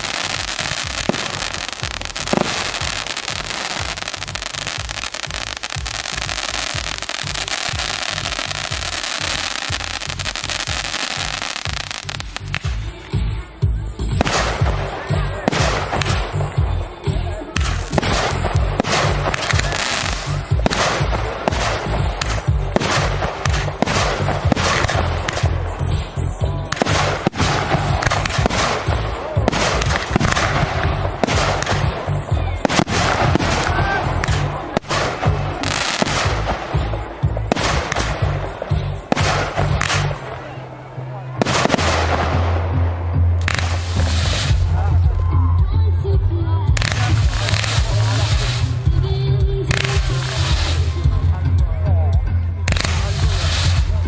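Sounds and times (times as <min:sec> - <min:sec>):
fireworks bangs and crackling: 0:00.0 - 0:45.3, 0:46.7 - 0:54.0
music with steady bass line: 0:00.0 - 0:54.0.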